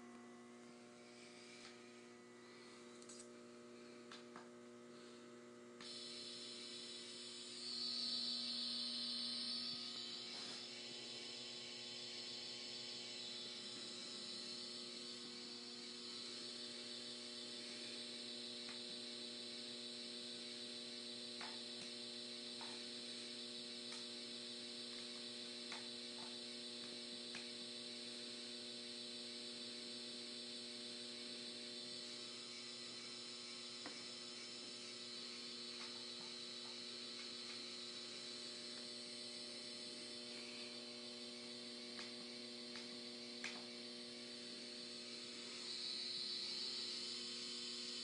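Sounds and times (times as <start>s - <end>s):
electrical hum: 0.0s - 48.0s.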